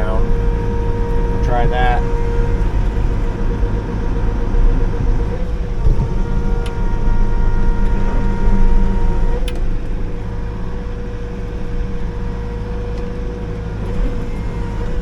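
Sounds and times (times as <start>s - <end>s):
diesel engine running under load: 0.0s - 15.0s
hydraulic whine: 0.0s - 15.0s.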